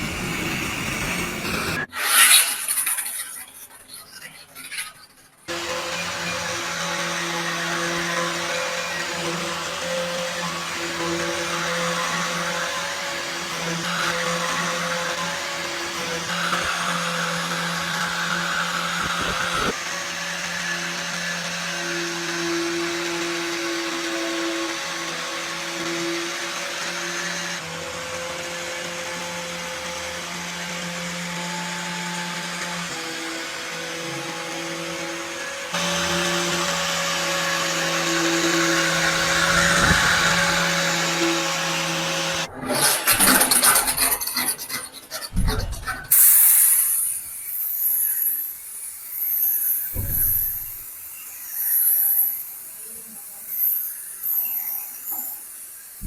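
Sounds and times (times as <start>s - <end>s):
electric power tool motor: 0.0s - 3.4s, 5.5s - 56.0s.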